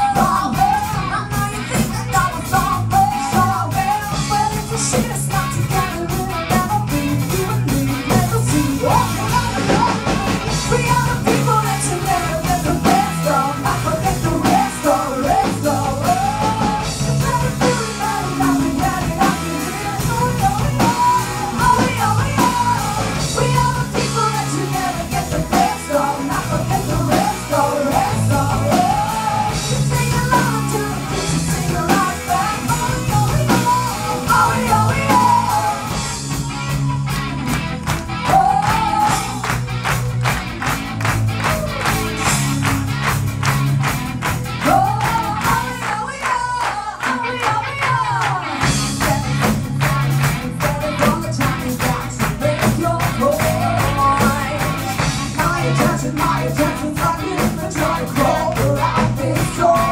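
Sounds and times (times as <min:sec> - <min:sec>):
bass guitar: 0:00.0 - 0:59.9
drum kit: 0:00.0 - 0:59.9
female lead vocals: 0:00.0 - 0:59.9.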